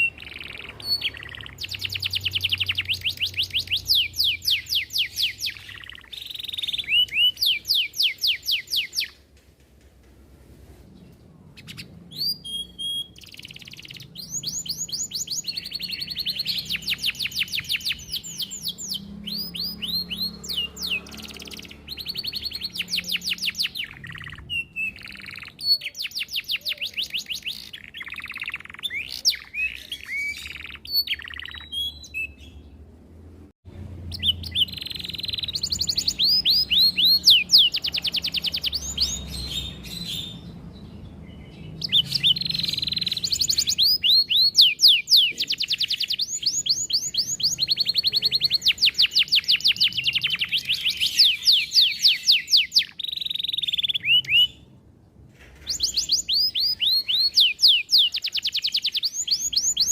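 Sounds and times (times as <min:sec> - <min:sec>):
canary singing trills: 0:00.0 - 0:09.3, 0:11.2 - 0:32.9, 0:33.8 - 0:59.9.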